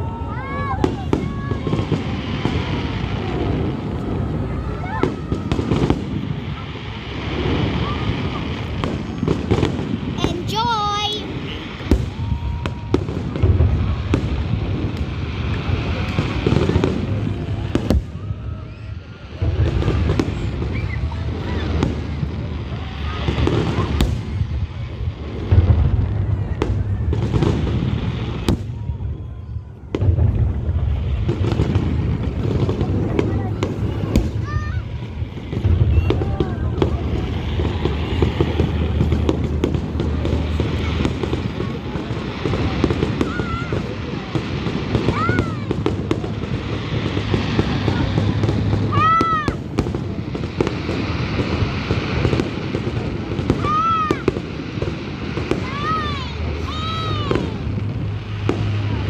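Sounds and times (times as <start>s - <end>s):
fireworks booming bursts: 0.0s - 59.0s
fireworks sharp cracks: 0.0s - 59.0s.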